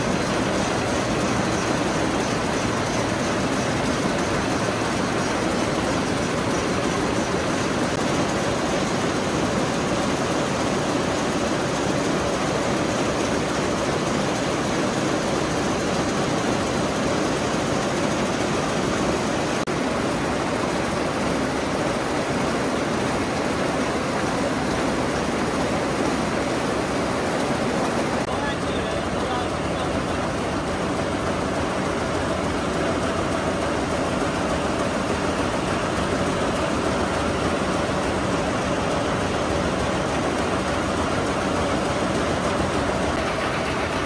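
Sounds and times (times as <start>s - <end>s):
looms running: 0.0s - 44.0s.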